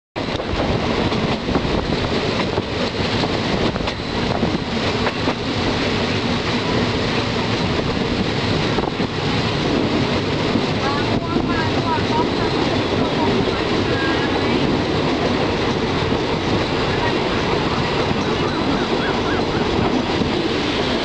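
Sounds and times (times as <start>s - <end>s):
rushing air: 0.2s - 21.0s
train wheels rumbling on rails: 0.2s - 21.0s.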